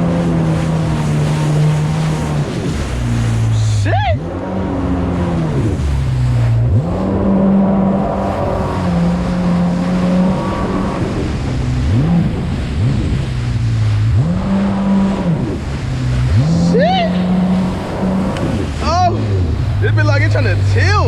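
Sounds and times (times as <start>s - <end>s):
jet ski engine revving: 0.0s - 21.0s
rushing water: 0.0s - 21.0s
wind: 0.0s - 21.0s.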